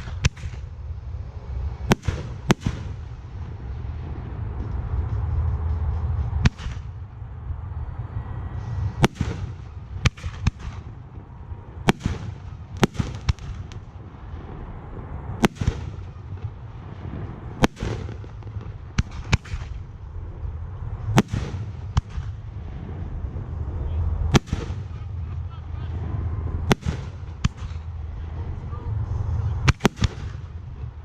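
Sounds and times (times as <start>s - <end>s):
continuous low rumble: 0.0s - 31.0s.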